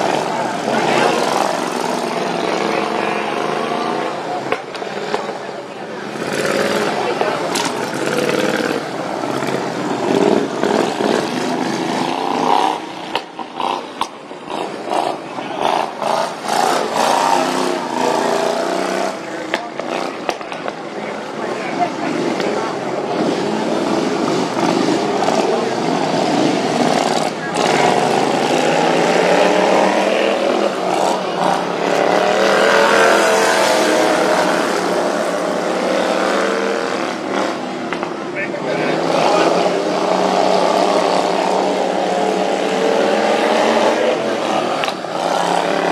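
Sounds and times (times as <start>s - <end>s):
lawn mower engines revving: 0.0s - 45.9s.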